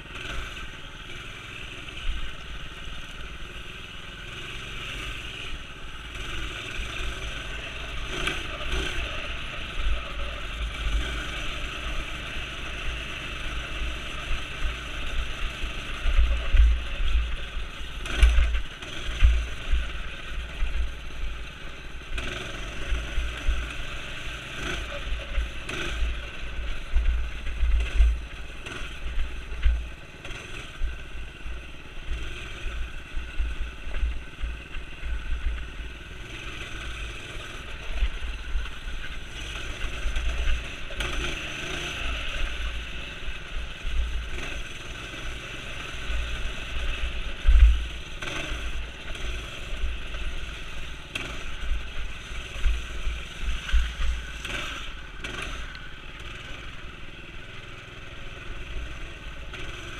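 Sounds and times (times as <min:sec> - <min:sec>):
small engine revving: 0:00.0 - 0:59.9.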